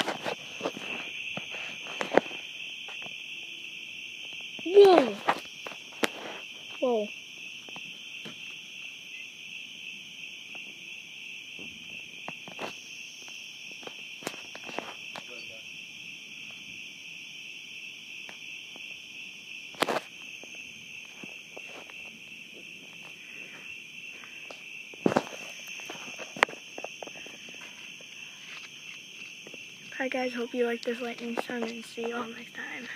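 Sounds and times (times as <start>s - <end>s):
night insects trilling: 0.0s - 32.9s.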